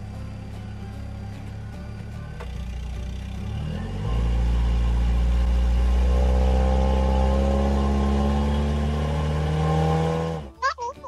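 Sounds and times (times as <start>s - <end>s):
higher engine tone: 0.0s - 10.8s
low car engine rumble: 0.0s - 10.9s.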